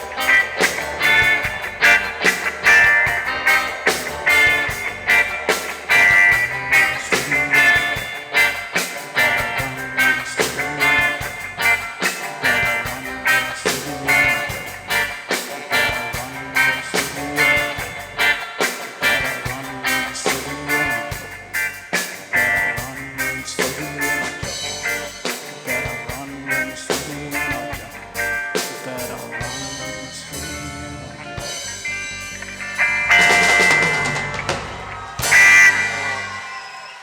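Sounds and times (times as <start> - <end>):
steady drum beat: 0.0 - 30.7, 31.4 - 36.5
guitar: 0.0 - 37.0
reggae band playing: 0.0 - 37.0.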